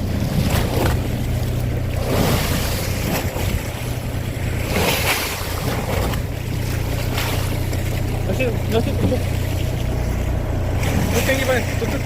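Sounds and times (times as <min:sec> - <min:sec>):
boat engine humming: 0:00.0 - 0:12.0
sea water rushing: 0:00.0 - 0:12.0
wind: 0:00.0 - 0:12.0.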